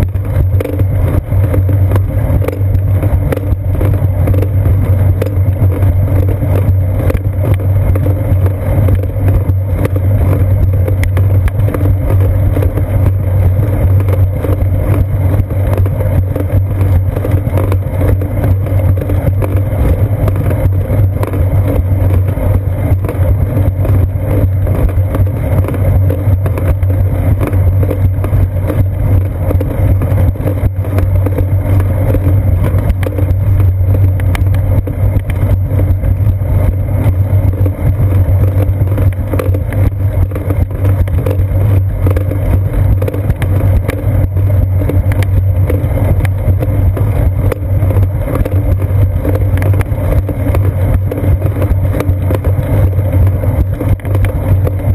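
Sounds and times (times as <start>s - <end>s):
bicycle rolling on concrete: 0.0s - 54.9s
mount rattling ticks: 0.0s - 54.9s
wind noise on microphone: 0.0s - 54.9s.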